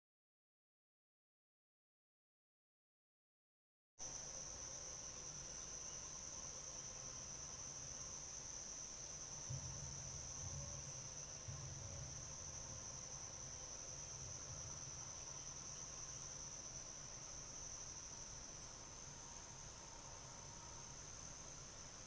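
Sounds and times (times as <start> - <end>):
crickets chirping: 4.0 - 22.0.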